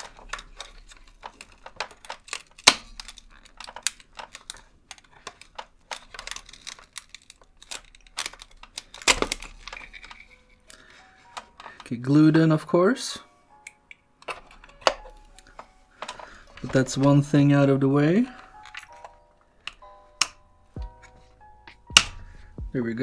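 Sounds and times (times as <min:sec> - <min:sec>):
plastic clicks and knocks: 0:00.0 - 0:11.9, 0:13.6 - 0:17.5, 0:18.3 - 0:22.8.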